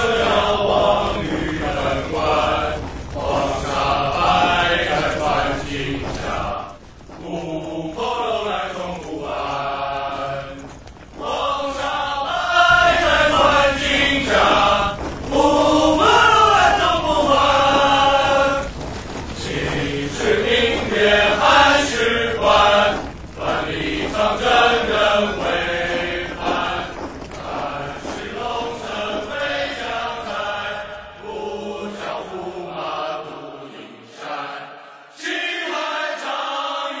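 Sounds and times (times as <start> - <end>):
male voices chanting: 0.0 - 37.0.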